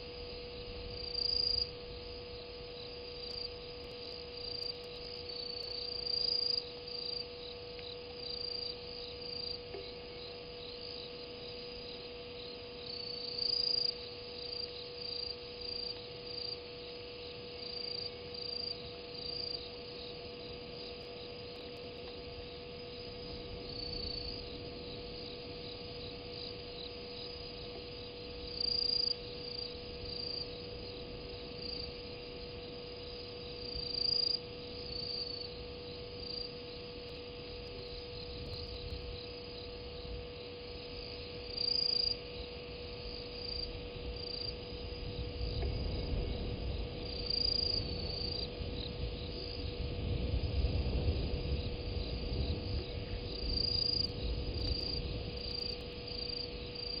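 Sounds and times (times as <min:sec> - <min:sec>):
crickets chirping: 0:00.0 - 0:57.0
steady low hum: 0:00.0 - 0:57.0.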